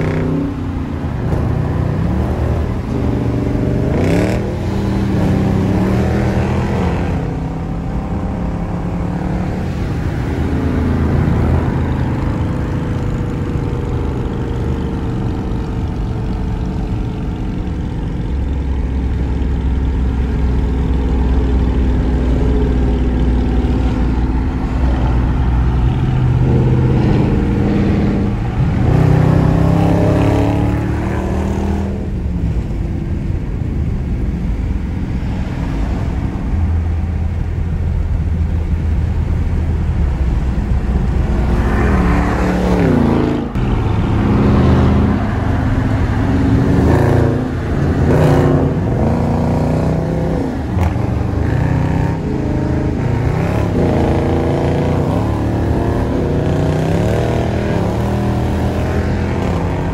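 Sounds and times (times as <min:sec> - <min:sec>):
car engine revving: 0:00.0 - 0:32.8, 0:33.4 - 0:59.9.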